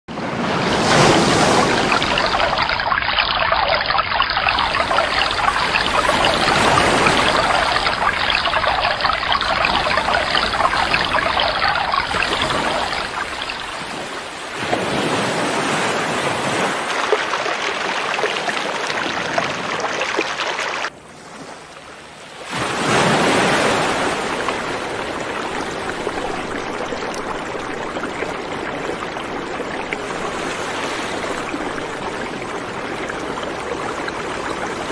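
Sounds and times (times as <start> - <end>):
rushing water: 0.1 - 34.9.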